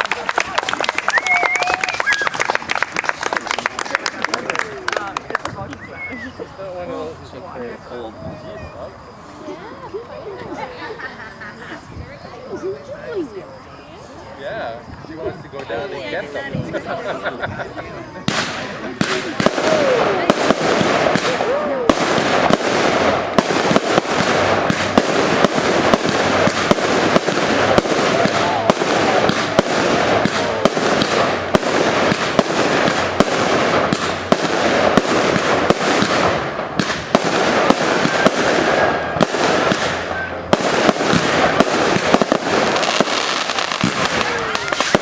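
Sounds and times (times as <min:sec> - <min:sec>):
faint crowd voices: 0:00.0 - 0:45.0
fireworks bangs and crackling: 0:00.0 - 0:45.0.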